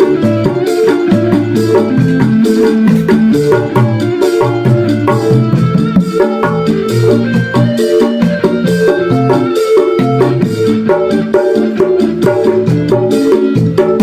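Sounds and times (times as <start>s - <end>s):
bass and melody line: 0.0s - 14.0s
fast hand drum pattern: 0.0s - 14.0s.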